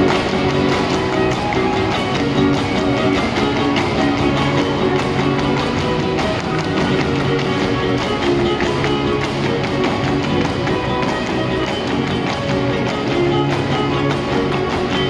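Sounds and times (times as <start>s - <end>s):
dance footwork stamping on wooden stage: 0.0s - 15.0s
string band playing: 0.0s - 15.0s.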